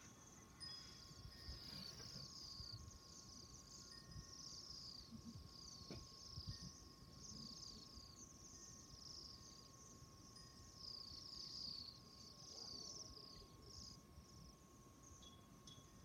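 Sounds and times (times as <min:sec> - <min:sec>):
faint steady tone: 0:00.0 - 0:16.0.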